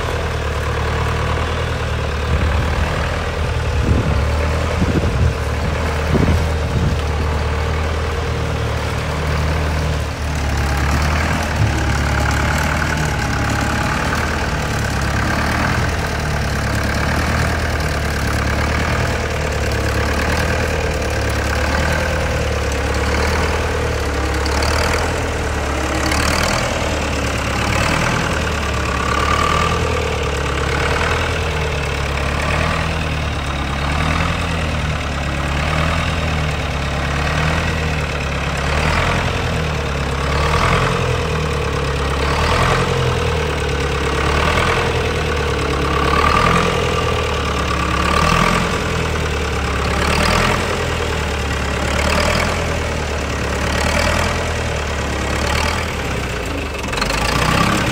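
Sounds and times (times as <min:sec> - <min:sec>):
diesel tractor engine idling: 0:00.0 - 0:57.9.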